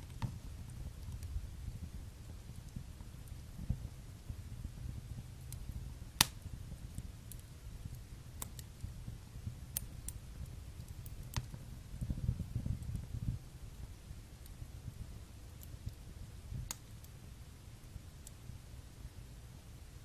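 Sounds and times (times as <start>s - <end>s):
fire flames fluttering: 0.0s - 18.4s
fire crackling and popping: 0.0s - 20.0s.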